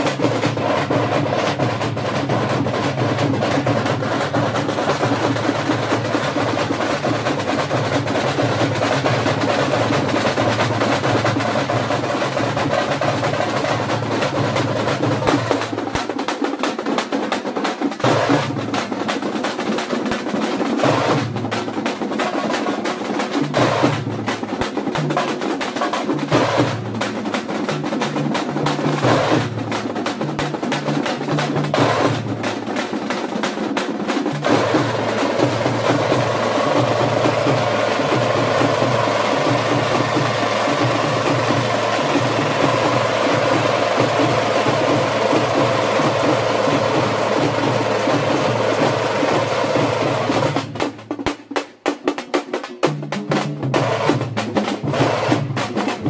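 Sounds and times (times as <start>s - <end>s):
barrel drum beat: 0.0s - 56.0s
frame drums struck with sticks: 0.0s - 56.0s.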